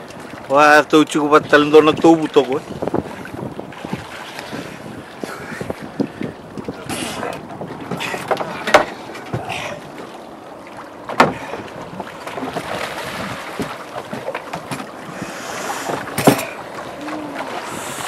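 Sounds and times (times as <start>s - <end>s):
wind on microphone: 0.0s - 10.0s, 11.2s - 18.0s
water around a boat: 0.0s - 18.0s.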